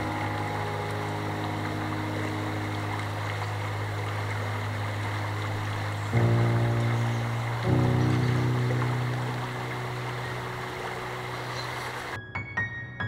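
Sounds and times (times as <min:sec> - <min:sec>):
river rushing over rocks: 0:00.0 - 0:12.2.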